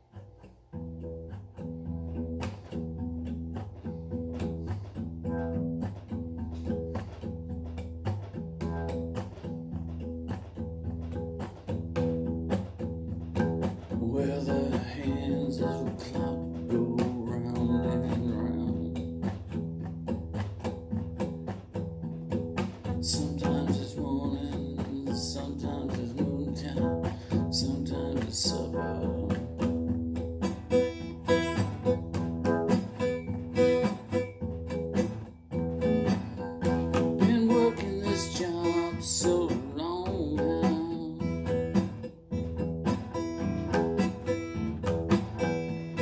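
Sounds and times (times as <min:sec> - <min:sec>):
acoustic guitar strumming: 0:00.0 - 0:46.0.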